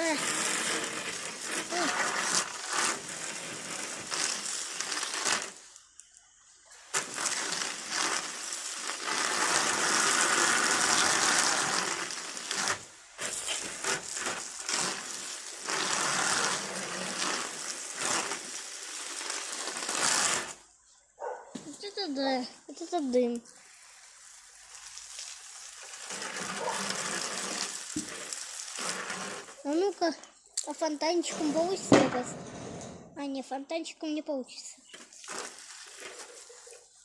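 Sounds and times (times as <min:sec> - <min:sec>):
water hissing on hot embers: 0:00.0 - 0:32.9, 0:34.5 - 0:37.0.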